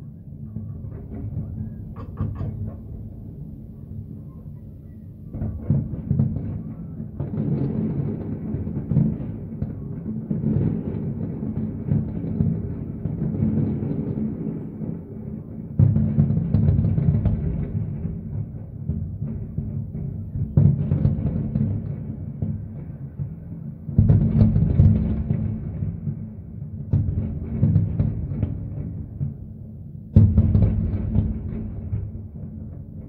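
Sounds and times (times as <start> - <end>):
fireworks bursting with low booms: 0.0 - 33.0.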